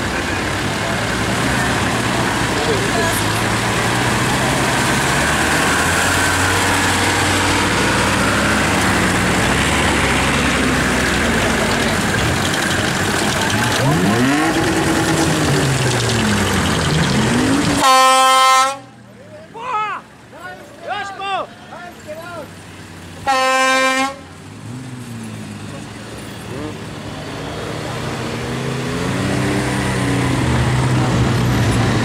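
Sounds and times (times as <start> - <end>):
engine revving: 0.0 - 18.8, 23.0 - 32.0
tractor engines running: 0.0 - 32.0.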